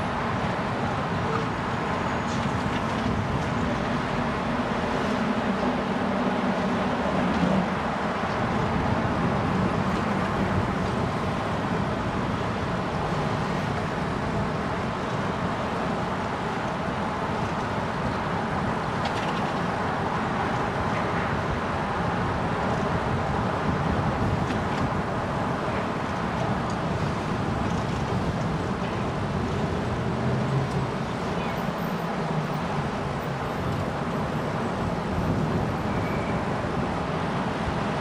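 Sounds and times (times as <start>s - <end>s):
vehicle engines and tyre noise: 0.0s - 38.0s.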